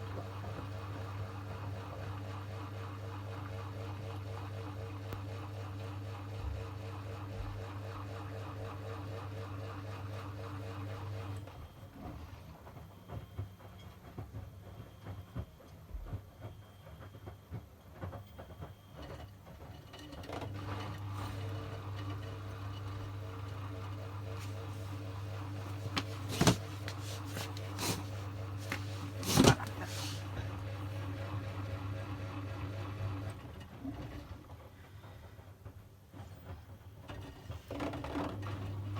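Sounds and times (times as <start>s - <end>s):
washing machine motor hum: 0.0s - 12.9s, 18.4s - 38.9s.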